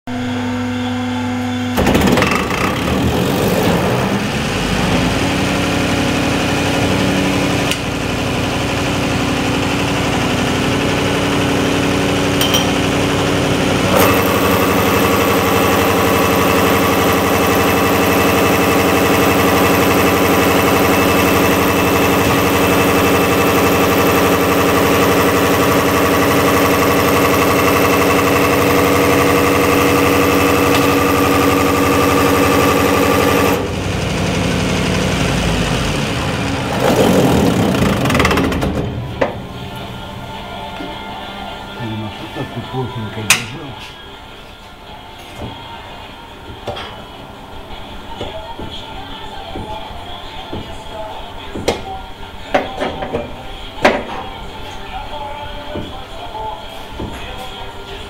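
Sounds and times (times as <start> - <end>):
fuel pump test bench humming and whining: 0.0 - 58.0.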